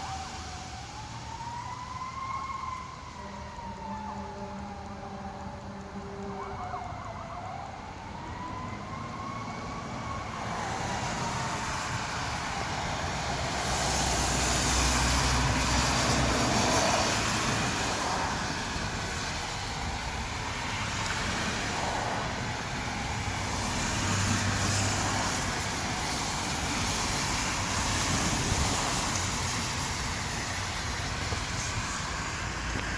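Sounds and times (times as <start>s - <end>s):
fire siren wailing: 0.0s - 32.9s
rain and wet-road traffic: 0.0s - 32.9s.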